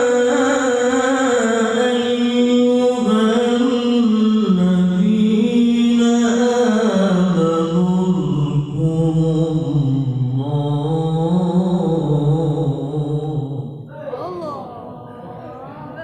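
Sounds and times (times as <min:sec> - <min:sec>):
man reciting in melodic chant: 0:00.0 - 0:15.2.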